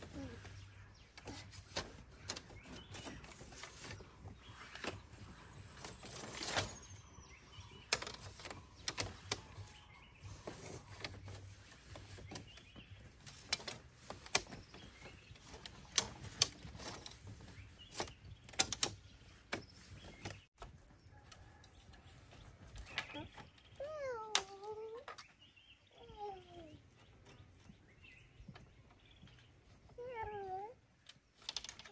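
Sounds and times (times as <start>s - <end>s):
bamboo strips clicking and clattering: 0.0s - 7.0s, 7.6s - 25.4s, 31.0s - 31.9s.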